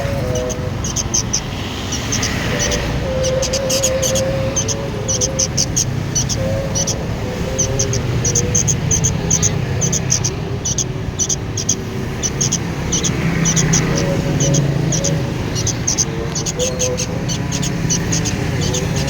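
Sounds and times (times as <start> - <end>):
bird chick chirping: 0.0 - 19.0.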